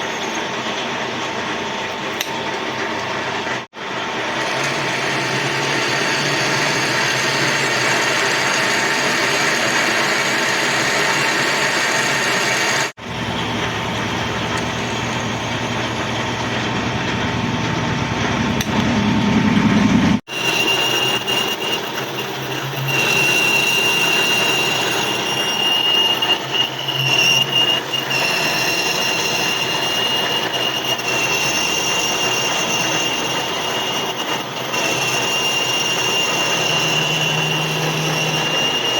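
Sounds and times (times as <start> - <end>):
power tool machining metal: 3.8 - 16.8, 20.2 - 38.9
high squeal: 5.4 - 38.9.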